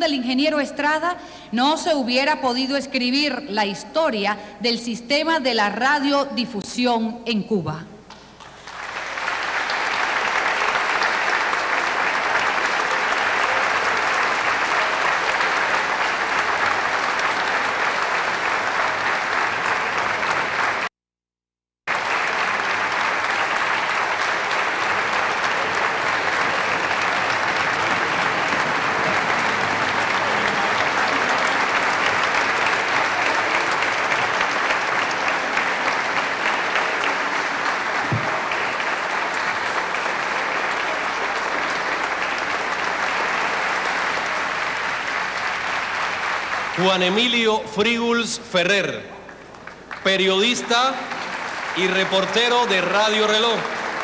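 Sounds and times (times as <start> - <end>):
audience applauding: 8.1 - 20.9, 21.9 - 54.0.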